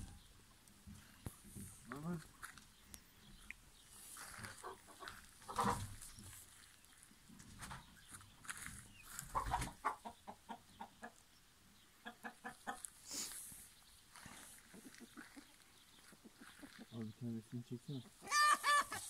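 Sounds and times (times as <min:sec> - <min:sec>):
chickens clucking: 0:00.0 - 0:06.8, 0:07.4 - 0:19.0.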